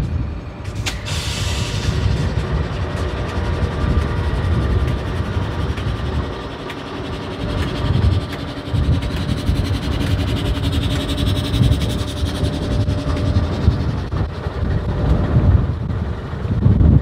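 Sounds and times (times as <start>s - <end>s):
train hum: 0.0s - 17.0s
train low rumble: 0.0s - 17.0s.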